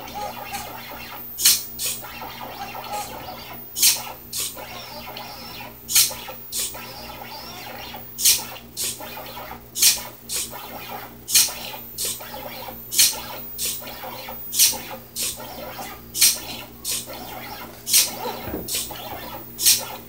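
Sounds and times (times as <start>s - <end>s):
servo motor buzzing: 0.0s - 20.0s
stepper motor hum: 0.0s - 20.0s.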